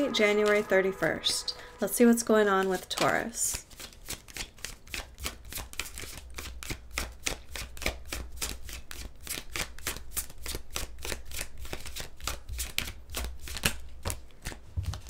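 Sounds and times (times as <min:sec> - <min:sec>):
cards being shuffled: 0:02.6 - 0:15.0.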